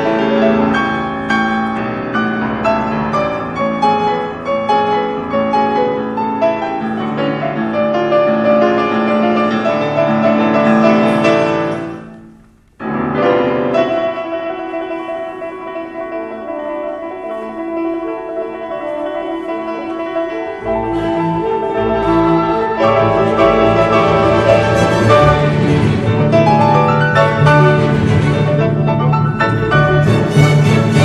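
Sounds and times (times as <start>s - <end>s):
classical piano music: 0.0s - 31.0s
music with held notes: 0.0s - 31.0s.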